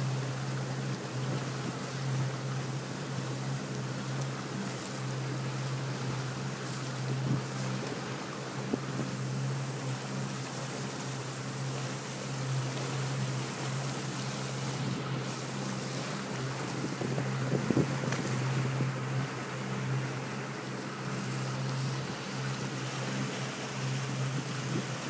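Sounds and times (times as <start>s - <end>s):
motorboat engine running: 0.0s - 25.0s
water noise: 0.0s - 25.0s
wind: 0.0s - 25.0s.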